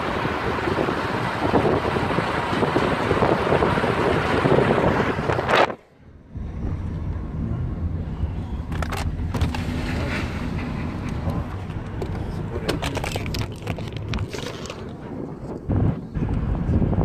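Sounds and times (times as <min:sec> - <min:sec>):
car cabin low hum: 0:00.0 - 0:17.0
road noise: 0:00.0 - 0:17.0
wind buffeting microphone: 0:00.0 - 0:17.0.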